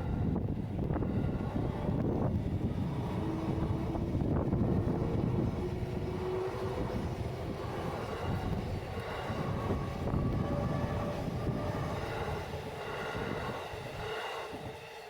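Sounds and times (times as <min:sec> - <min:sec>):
electric train rumbling past: 0:00.0 - 0:15.0.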